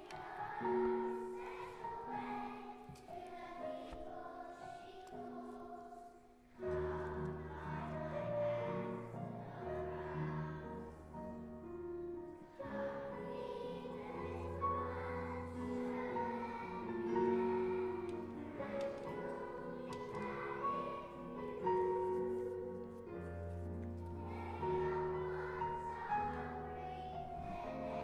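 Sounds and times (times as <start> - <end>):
children's choir singing: 0.0 - 28.0.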